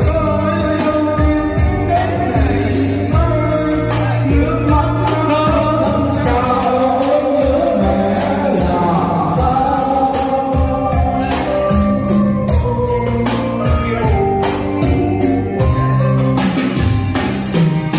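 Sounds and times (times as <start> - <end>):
karaoke song over loudspeakers: 0.0 - 17.9.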